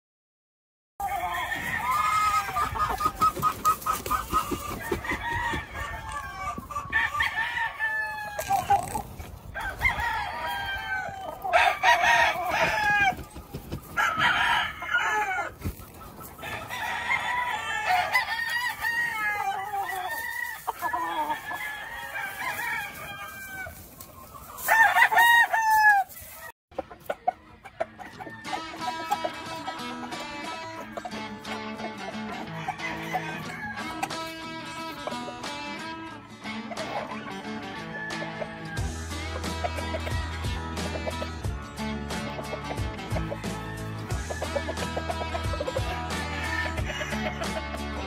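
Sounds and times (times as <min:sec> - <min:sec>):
roosters crowing: 0:01.0 - 0:26.5, 0:27.6 - 0:48.0
chickens clucking: 0:01.0 - 0:48.0.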